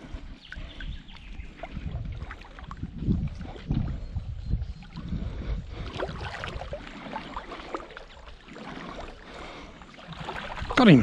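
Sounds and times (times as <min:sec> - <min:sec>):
water splashing from wading: 0:00.0 - 0:04.0, 0:05.7 - 0:11.0.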